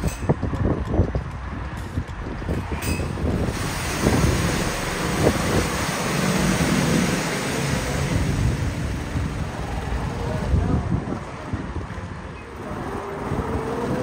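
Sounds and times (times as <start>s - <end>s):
go-kart engine running: 0.0s - 14.0s
wind noise on microphone: 0.0s - 14.0s.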